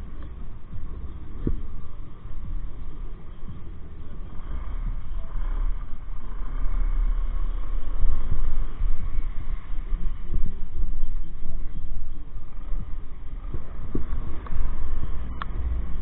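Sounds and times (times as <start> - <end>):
road noise: 0.0 - 16.0
wind rumble on microphone: 0.0 - 16.0.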